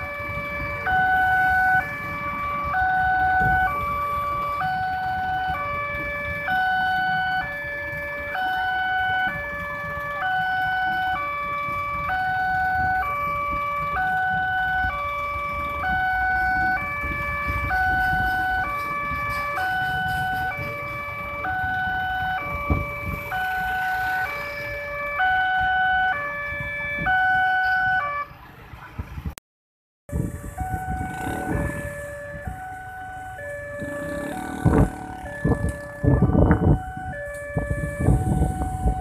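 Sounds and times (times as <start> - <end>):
passing train rumble: 0.0 - 27.3, 30.1 - 39.0
level crossing two-tone alarm: 0.0 - 28.2, 30.3 - 39.0.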